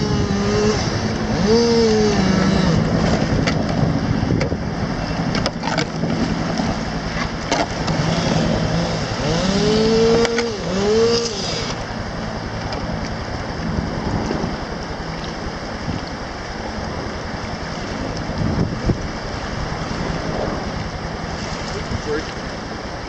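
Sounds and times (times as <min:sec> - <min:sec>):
helicopter engine and rotors: 0:00.0 - 0:23.0.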